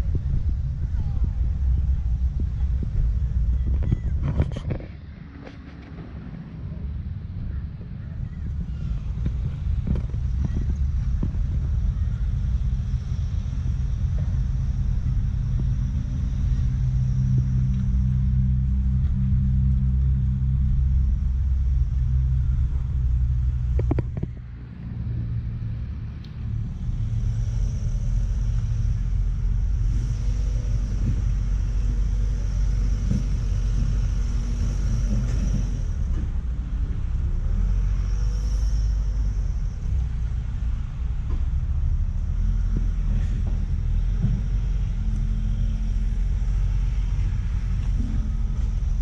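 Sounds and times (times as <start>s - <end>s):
road noise: 0.0s - 49.0s
van engine rumbling: 0.0s - 49.0s.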